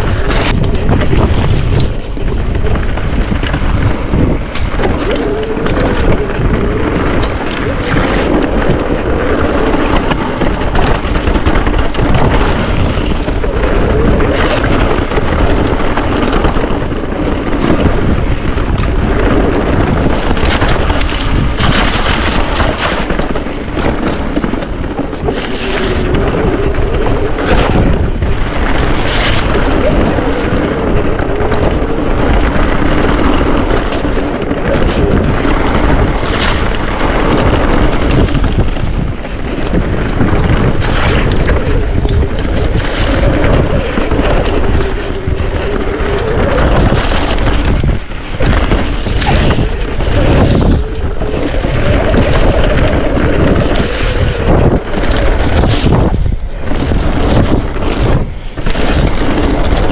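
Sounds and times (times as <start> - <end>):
bike knocks and rattles: 0.0 - 59.9
wind and tyre rumble: 0.0 - 59.9.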